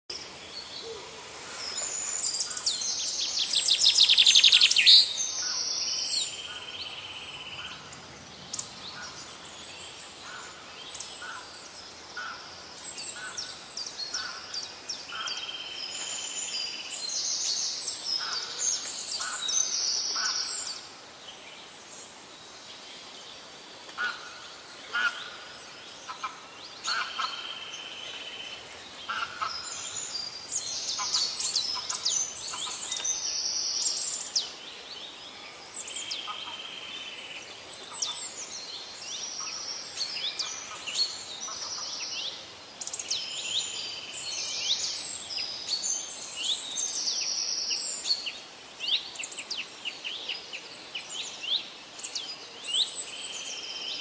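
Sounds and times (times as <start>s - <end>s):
birds chirping and singing: 0.1s - 20.9s, 24.0s - 54.0s
faint steady hiss: 0.1s - 54.0s.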